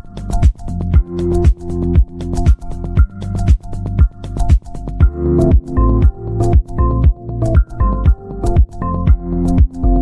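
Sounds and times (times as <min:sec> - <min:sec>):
deep bass thumps: 0:00.0 - 0:10.0.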